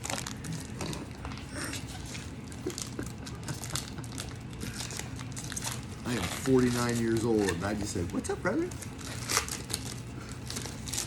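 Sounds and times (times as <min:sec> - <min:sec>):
foil wrappers crinkling: 0:00.0 - 0:11.0.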